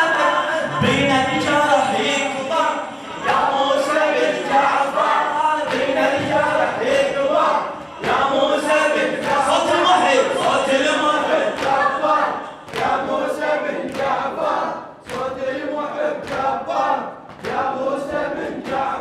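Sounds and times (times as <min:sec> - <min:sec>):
voices chanting together: 0:00.0 - 0:19.0.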